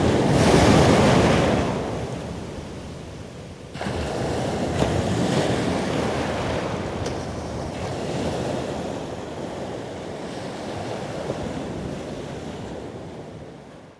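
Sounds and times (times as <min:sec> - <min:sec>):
ocean surf washing onto beach: 0:00.0 - 0:13.9
wind on microphone: 0:00.0 - 0:13.9.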